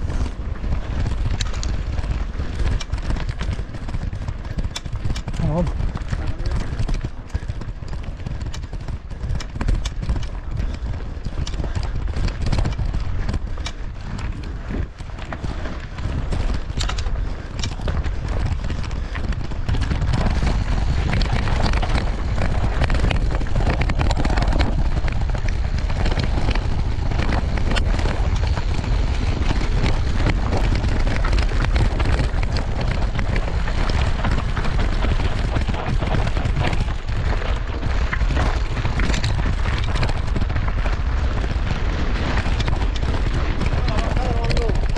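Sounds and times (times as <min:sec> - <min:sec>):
bike and tyres rattling: 0:00.0 - 0:44.9
wind buffeting microphone: 0:00.0 - 0:44.9.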